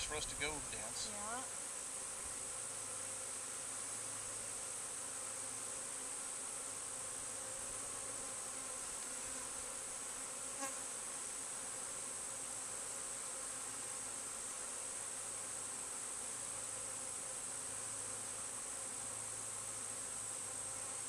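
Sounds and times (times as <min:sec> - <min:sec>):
bee swarm buzzing: 0:00.0 - 0:21.0.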